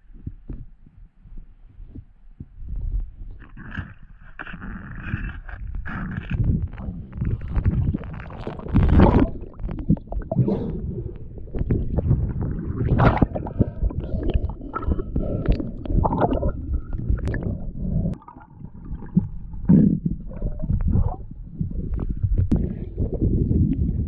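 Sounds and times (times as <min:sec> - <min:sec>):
muffled water rumbling and gurgling: 0:00.0 - 0:24.0.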